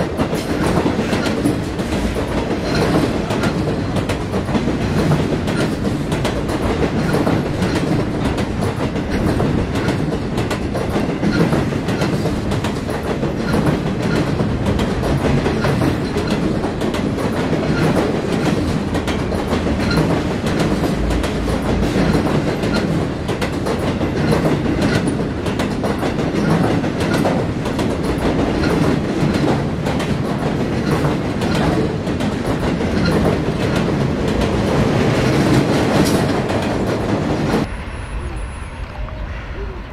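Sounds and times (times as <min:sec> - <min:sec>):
wheels clacking over rail joints: 0:00.0 - 0:37.7
steel wheels rumbling on rails: 0:00.0 - 0:39.9.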